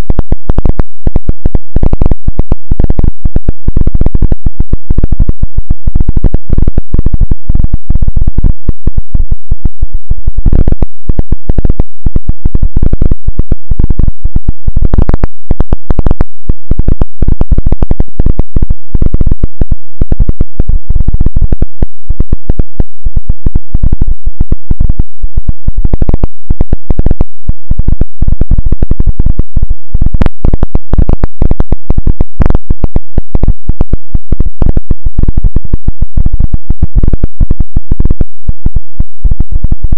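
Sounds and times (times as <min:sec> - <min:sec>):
clipped electronic pulsing noise: 0:00.0 - 0:39.9.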